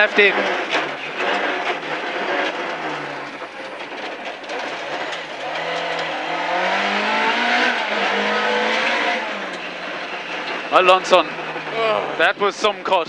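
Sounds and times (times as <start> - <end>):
rally car engine revving: 0.0 - 13.0
road and gravel noise: 0.0 - 13.0.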